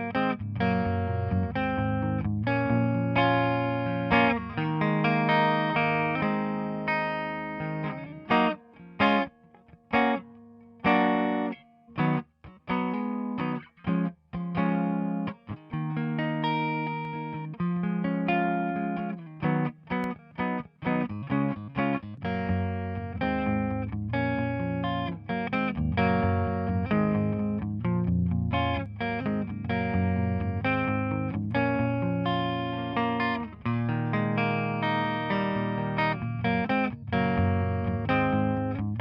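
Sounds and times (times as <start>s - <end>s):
electric guitar chords: 0.0s - 39.0s.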